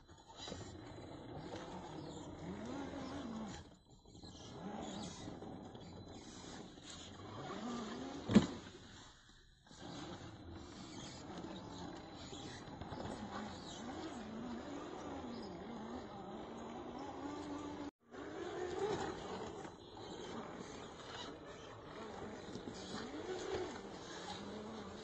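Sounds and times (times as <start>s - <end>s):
electric motor whining: 0.3s - 8.3s, 9.7s - 25.0s.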